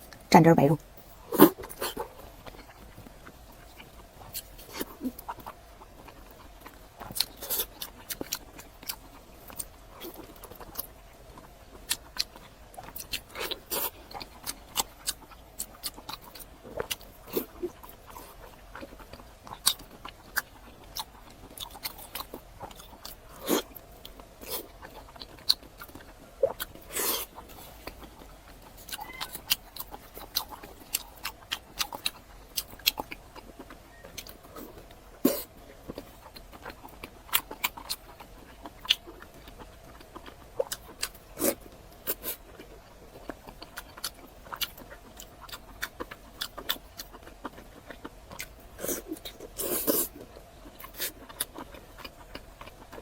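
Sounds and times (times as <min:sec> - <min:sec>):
person chewing: 0:01.2 - 0:53.0.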